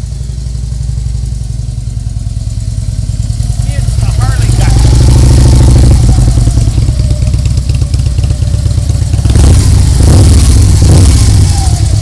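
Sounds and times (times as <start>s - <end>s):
motorcycle engine running loud: 0.0s - 12.0s.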